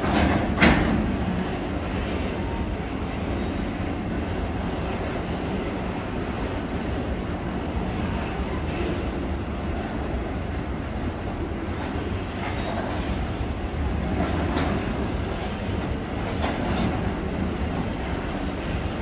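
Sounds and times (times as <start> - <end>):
freight wagons rumbling on rails: 0.0 - 19.0.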